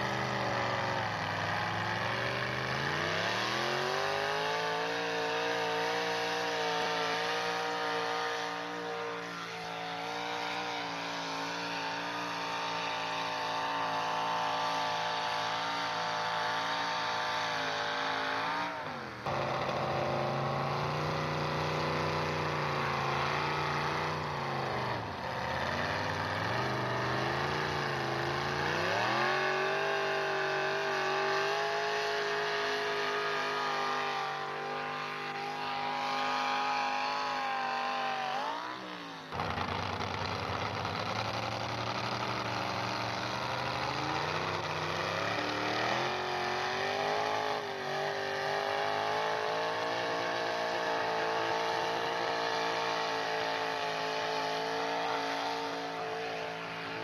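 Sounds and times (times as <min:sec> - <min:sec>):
truck engine revving under load: 0:00.0 - 0:56.2.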